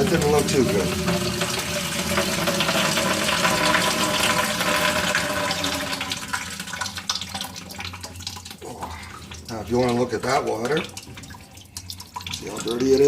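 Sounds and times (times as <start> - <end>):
water pouring into bucket: 0.0 - 13.0.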